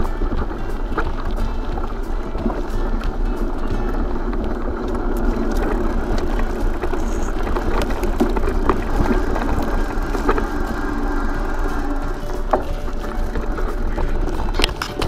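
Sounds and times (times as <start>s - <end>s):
bike clicks and rattles: 0.0s - 15.0s
bike tyre rumble on dirt: 0.0s - 15.0s.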